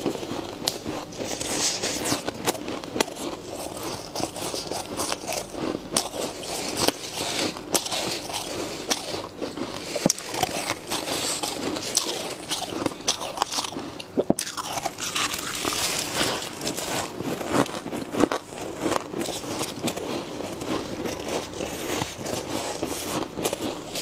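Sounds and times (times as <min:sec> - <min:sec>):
frost crunching and crackling: 0:00.0 - 0:24.0.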